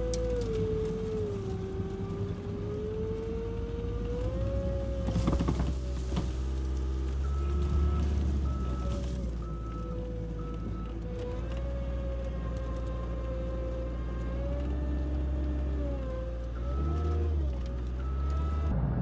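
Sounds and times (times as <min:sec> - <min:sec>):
loader engine drone and whine: 0:00.0 - 0:19.0.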